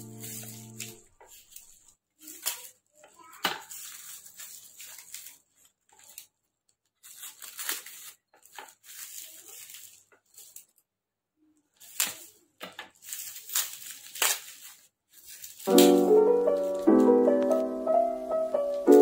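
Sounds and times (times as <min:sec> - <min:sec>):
plastic packaging crinkling and tearing: 0:00.0 - 0:11.0, 0:11.7 - 0:17.7.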